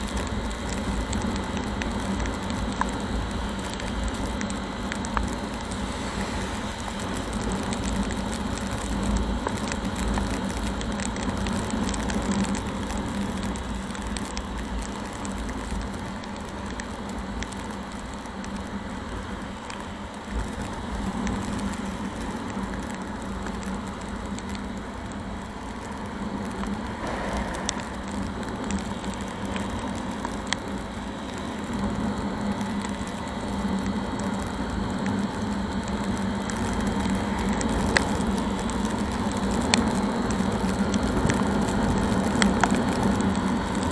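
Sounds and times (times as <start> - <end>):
rain and spray: 0.0 - 43.9.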